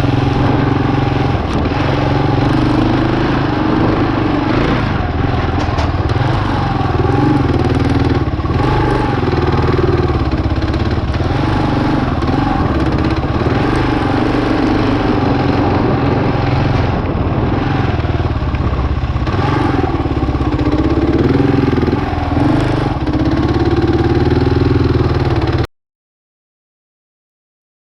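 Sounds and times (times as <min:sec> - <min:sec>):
motorcycle engine revving: 0:00.0 - 0:25.7.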